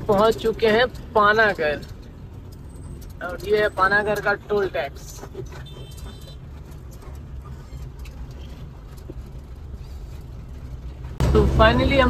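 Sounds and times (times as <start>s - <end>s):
road noise: 0.0s - 12.0s
truck engine rumble: 0.0s - 12.0s.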